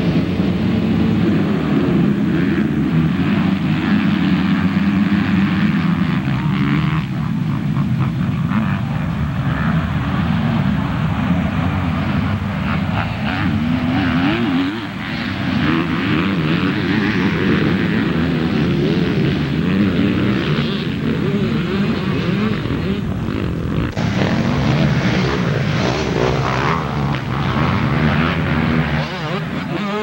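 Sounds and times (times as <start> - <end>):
motocross engines racing: 0.0 - 30.0.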